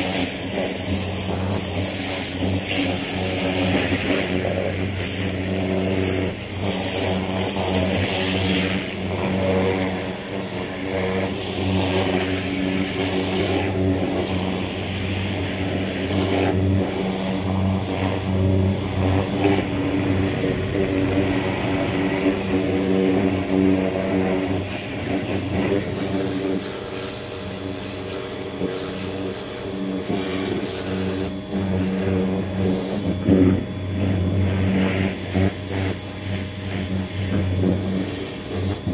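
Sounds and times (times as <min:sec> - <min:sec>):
water jet hissing: 0:00.0 - 0:33.2
pressure washer humming: 0:00.0 - 0:38.9.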